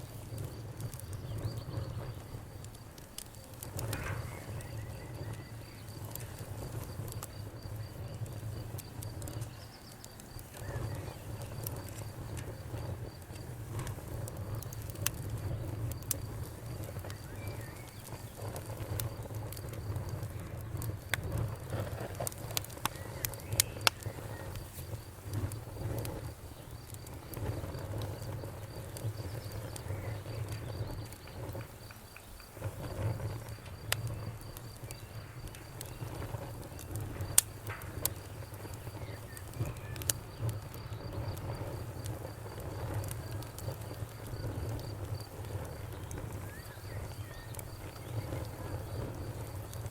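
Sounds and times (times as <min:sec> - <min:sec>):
campfire crackling and popping: 0:00.0 - 0:49.9
low rumble of flames: 0:00.0 - 0:49.9.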